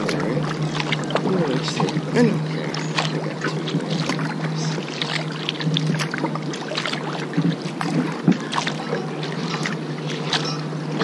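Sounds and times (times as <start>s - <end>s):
paddle splashing water: 0.0s - 11.0s
steady low hum: 0.0s - 11.0s.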